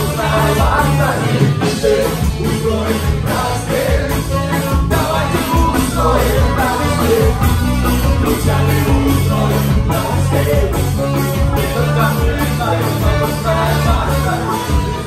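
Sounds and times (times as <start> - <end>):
bass guitar: 0.0 - 15.0
electric guitar: 0.0 - 15.0
keyboard: 0.0 - 15.0
steady drum beat: 0.0 - 15.0.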